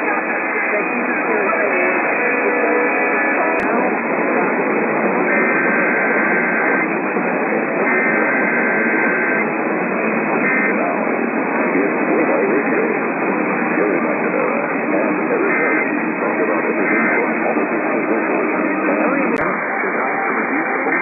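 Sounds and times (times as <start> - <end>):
faint speech: 0.0 - 21.0
radio static: 0.0 - 21.0
digital data tones: 1.6 - 21.0.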